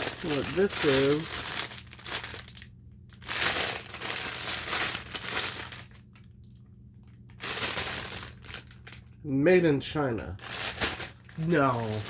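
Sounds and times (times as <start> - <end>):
packaging crinkling: 0.0 - 9.2, 10.4 - 12.0.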